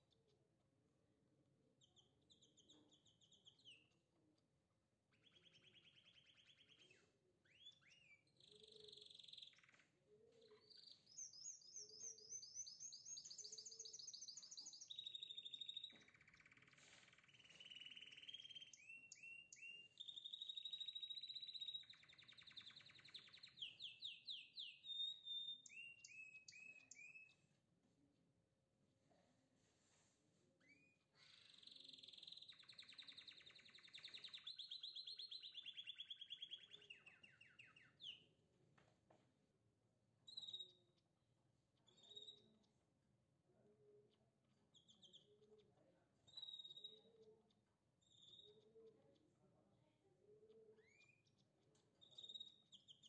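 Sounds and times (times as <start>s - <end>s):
songbird trilling and chirping: 1.8s - 4.1s, 5.1s - 27.5s, 30.6s - 38.3s, 40.2s - 42.8s, 43.8s - 49.6s, 50.2s - 53.0s.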